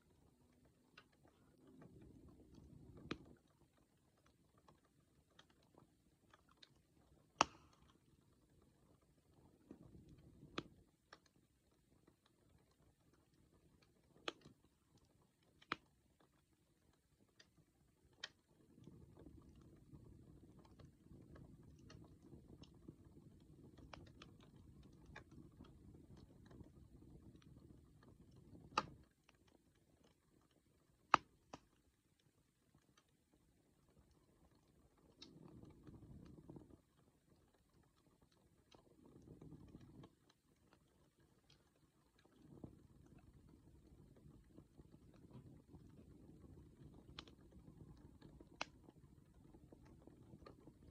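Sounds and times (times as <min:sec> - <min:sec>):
campfire crackling: 0:00.0 - 0:50.9
campfire popping: 0:00.0 - 0:50.9.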